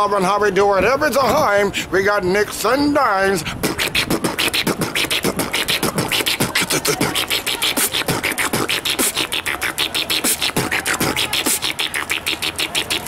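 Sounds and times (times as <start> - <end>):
man beatboxing: 1.0 - 13.0.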